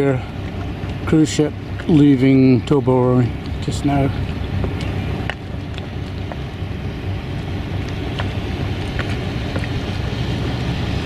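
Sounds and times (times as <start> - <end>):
wind buffeting microphone: 0.0 - 11.0
yacht engine low rumble: 0.0 - 11.0.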